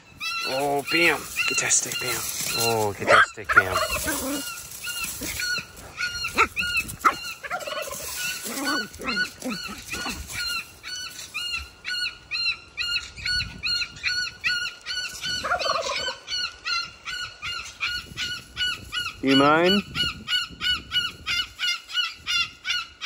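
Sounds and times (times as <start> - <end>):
fowl squawking: 0.0 - 13.1, 13.8 - 19.8
lower fowl calls: 0.0 - 23.0.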